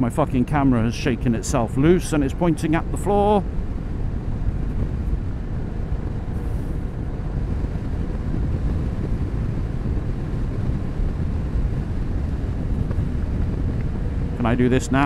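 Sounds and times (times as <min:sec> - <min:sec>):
wind buffeting: 0:00.0 - 0:15.0.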